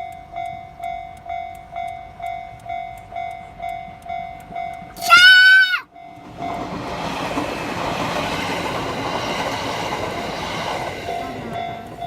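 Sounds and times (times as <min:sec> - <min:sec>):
crossing warning bell: 0:00.0 - 0:12.0
train wheels rushing on rails: 0:00.0 - 0:12.0.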